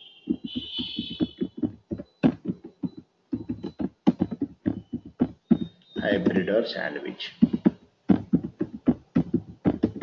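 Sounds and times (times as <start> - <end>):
keyboard typing: 0.0 - 6.4, 7.4 - 10.0.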